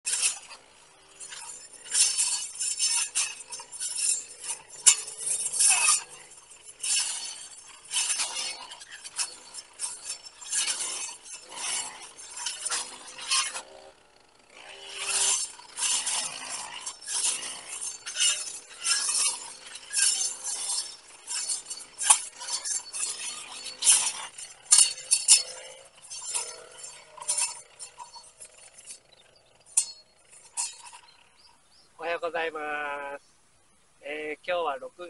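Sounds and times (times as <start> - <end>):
brush cutter slashing weeds: 0.1 - 31.8.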